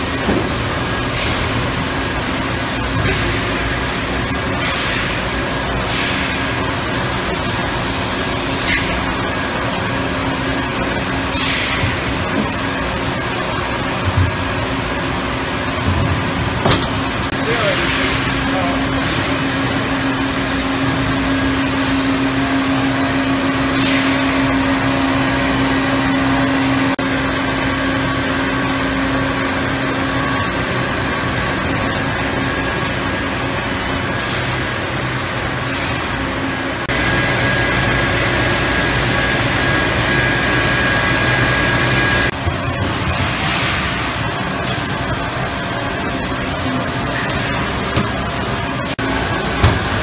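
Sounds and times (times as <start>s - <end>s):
high steady machine whine: 0.0s - 50.0s
industrial machinery hum and hiss: 0.0s - 50.0s.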